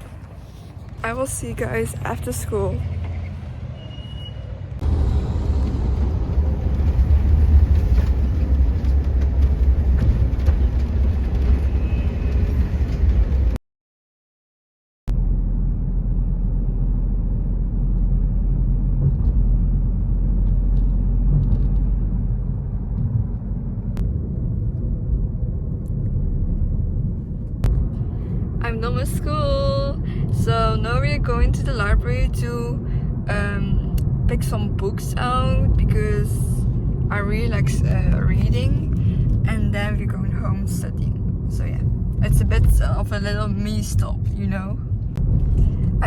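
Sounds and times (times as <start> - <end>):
traffic rumble: 0.0 - 13.6, 15.1 - 46.0.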